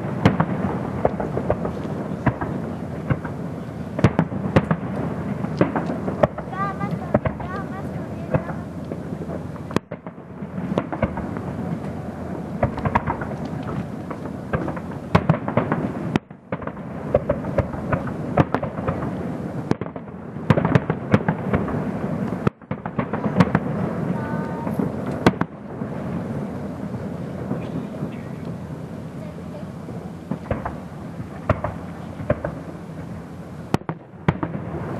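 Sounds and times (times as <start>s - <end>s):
fireworks bangs and crackles: 0.0s - 34.9s
rumble of fireworks booms: 0.0s - 34.9s.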